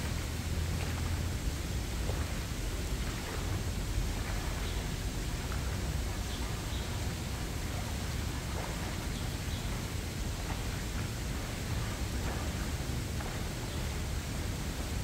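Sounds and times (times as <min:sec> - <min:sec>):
river water running over riffle: 0:00.0 - 0:15.0.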